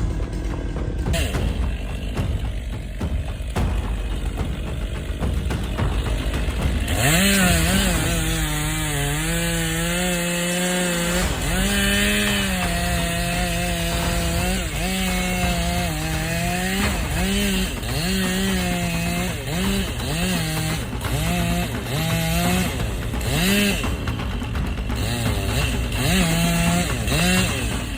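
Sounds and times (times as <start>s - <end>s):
chainsaw cutting wood: 1.1s - 27.9s.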